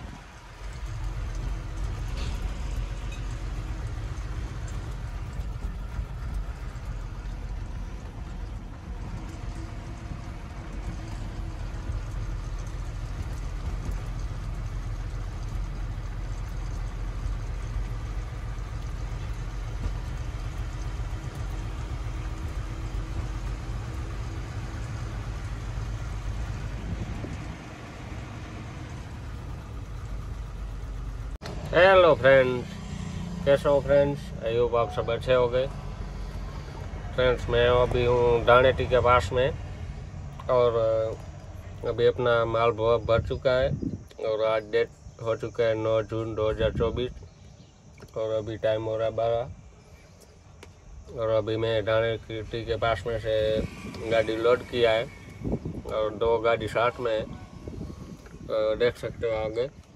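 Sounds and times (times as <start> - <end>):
road and cab noise: 0.0 - 59.9
truck engine rumble: 0.0 - 59.9.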